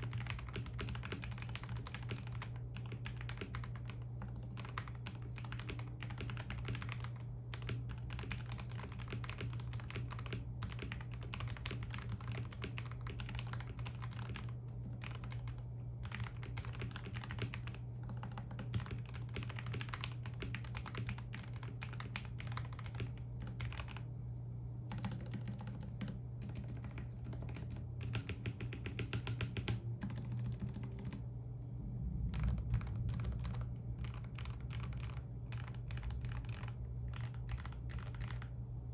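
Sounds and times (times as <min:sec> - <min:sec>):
fast typing on mechanical keyboard: 0:00.0 - 0:24.0, 0:24.9 - 0:31.2, 0:32.3 - 0:38.6.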